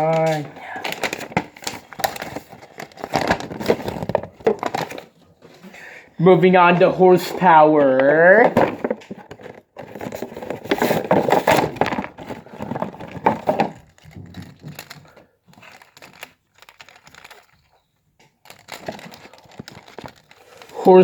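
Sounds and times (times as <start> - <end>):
plastic and cardboard crinkling: 0.0 - 21.0.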